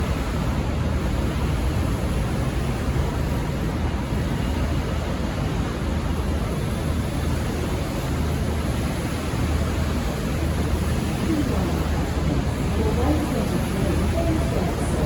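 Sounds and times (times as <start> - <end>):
diesel railcar rumbling: 0.0 - 15.0.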